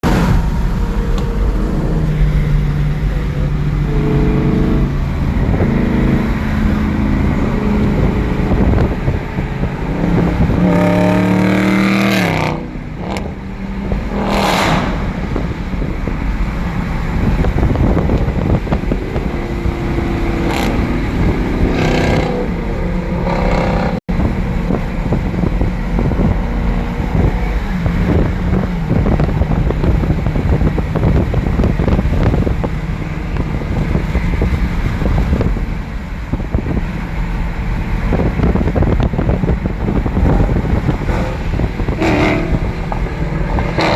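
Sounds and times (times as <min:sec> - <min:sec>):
car engines accelerating: 0:00.0 - 0:43.9
wind rush: 0:00.0 - 0:43.9.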